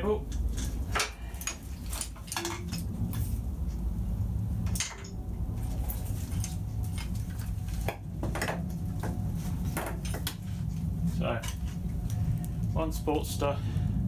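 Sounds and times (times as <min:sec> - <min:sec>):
wires rustling: 0:00.0 - 0:13.6
low hum: 0:00.0 - 0:14.0.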